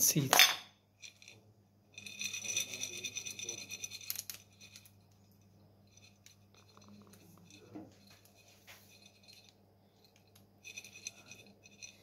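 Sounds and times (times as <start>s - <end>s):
seeds rattling onto dough: 2.0s - 12.0s.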